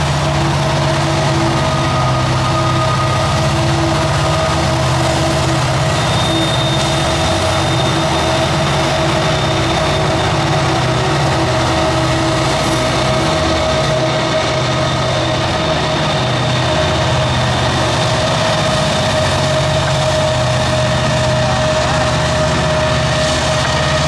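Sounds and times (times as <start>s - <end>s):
diesel locomotives passing: 0.0s - 24.0s
high squeal of wheel flanges: 0.0s - 24.0s.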